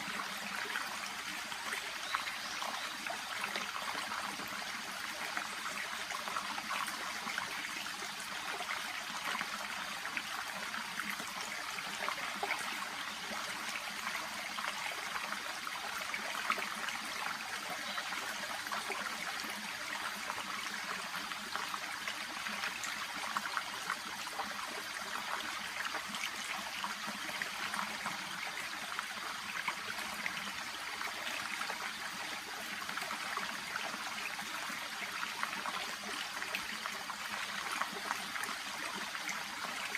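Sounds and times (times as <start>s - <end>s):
brook babbling and trickling: 0.0s - 39.9s.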